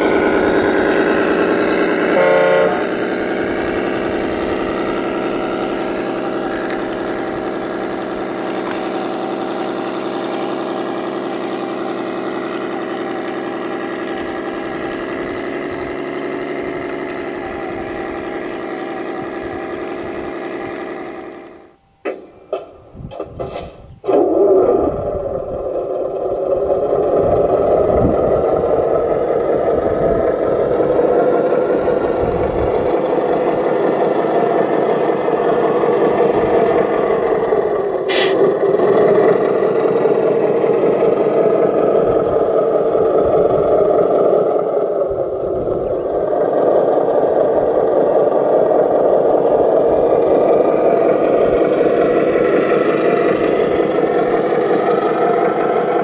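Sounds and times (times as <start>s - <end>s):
model vehicle motor running: 0.0s - 21.8s, 24.0s - 56.0s.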